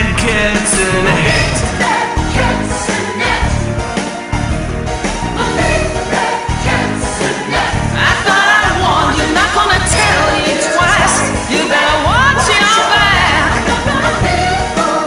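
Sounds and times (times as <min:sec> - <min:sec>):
several voices singing over a beat: 0:00.0 - 0:03.8, 0:05.4 - 0:15.0.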